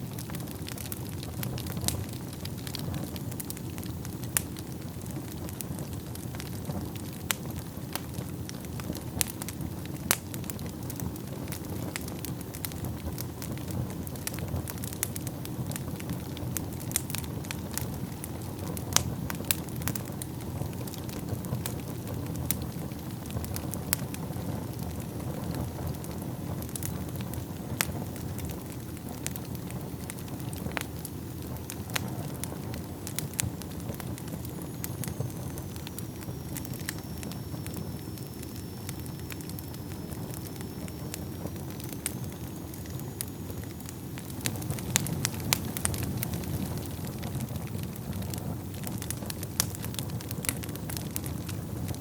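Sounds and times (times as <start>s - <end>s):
fire crackles and pops: 0.0s - 52.0s
low rumble of flames: 0.0s - 52.0s.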